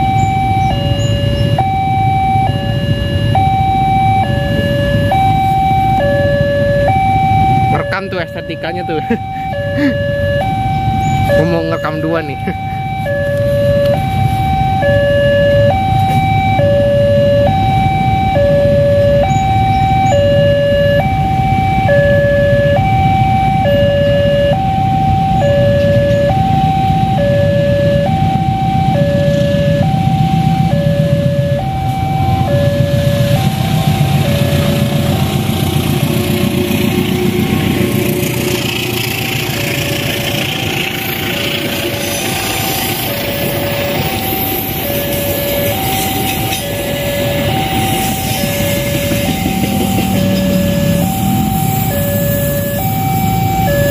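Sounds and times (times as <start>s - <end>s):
approaching train: 0.0s - 53.9s
level crossing alarm: 0.0s - 53.9s.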